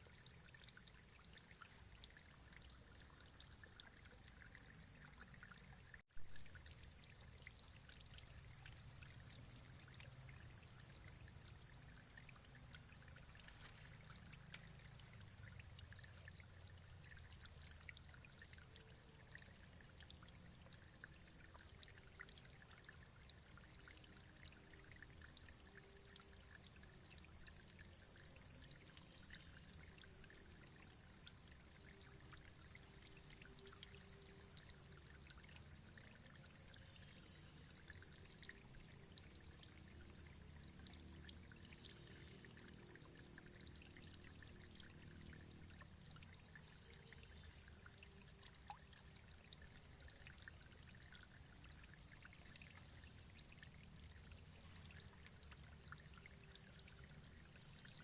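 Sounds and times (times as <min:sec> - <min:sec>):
faint running water trickling: 0:00.0 - 0:58.0.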